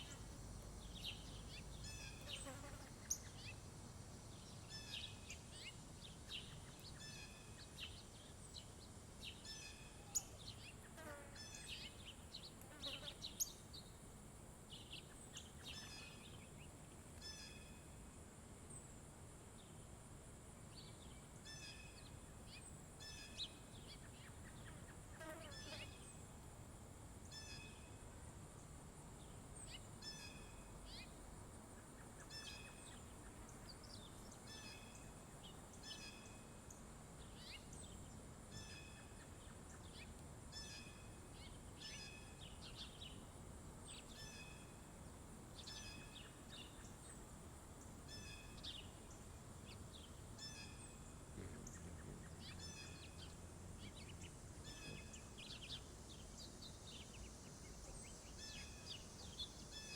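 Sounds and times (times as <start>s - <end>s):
small songbirds chirping: 0.0s - 18.0s, 20.6s - 26.4s, 27.1s - 59.9s.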